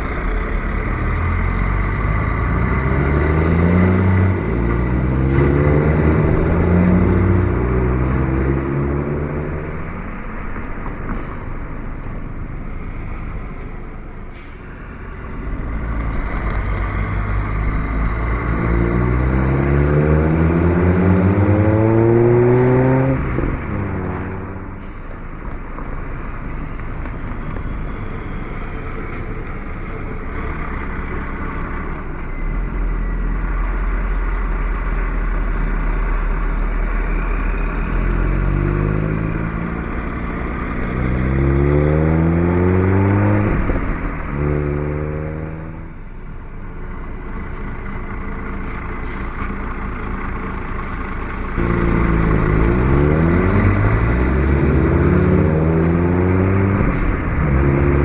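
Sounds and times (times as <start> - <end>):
road noise: 0.0 - 58.0
truck diesel engine accelerating: 0.0 - 58.0.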